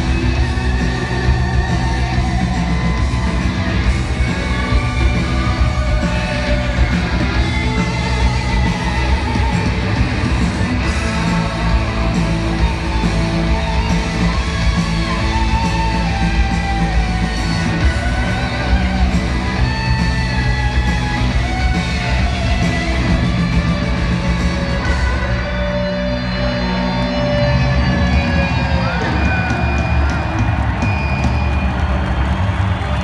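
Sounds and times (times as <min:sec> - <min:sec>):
electric guitar: 0:00.0 - 0:33.0
live rock band: 0:00.0 - 0:33.0.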